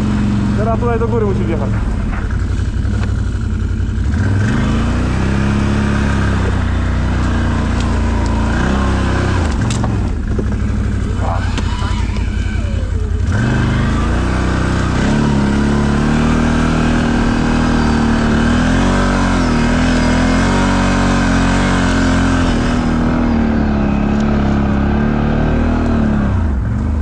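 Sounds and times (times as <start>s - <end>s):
atv engine revving under load: 0.0s - 27.0s.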